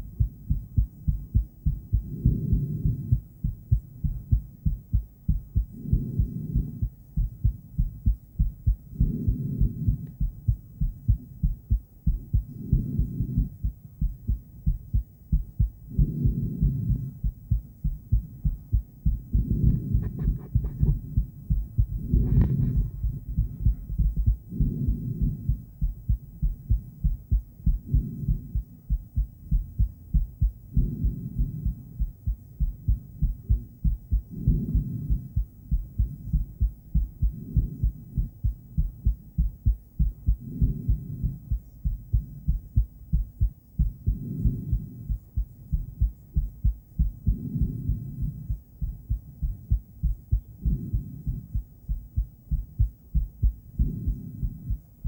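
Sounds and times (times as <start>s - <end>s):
heartbeat whooshing pulses: 0.0s - 55.0s.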